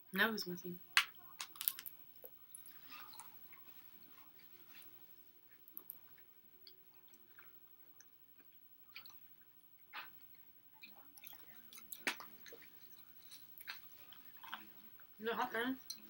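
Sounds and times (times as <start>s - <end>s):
person chewing food: 1.7s - 15.1s.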